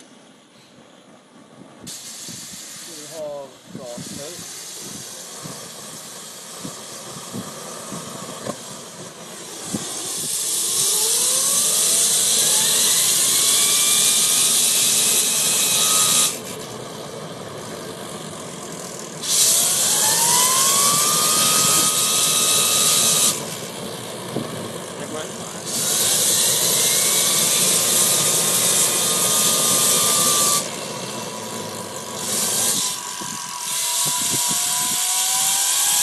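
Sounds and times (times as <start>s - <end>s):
jet engine rushing hiss: 0.0s - 35.6s
jet engine whine rising: 0.0s - 36.0s.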